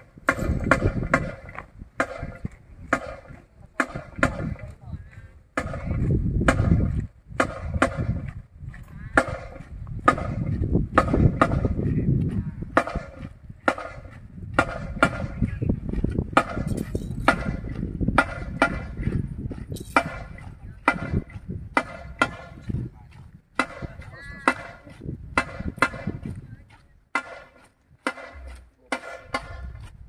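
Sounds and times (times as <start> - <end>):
wind rumbling on microphone: 0.0 - 30.0
marching drum strikes: 0.2 - 4.6, 5.6 - 8.4, 9.2 - 12.0, 12.7 - 22.8, 23.5 - 26.4, 27.1 - 29.9.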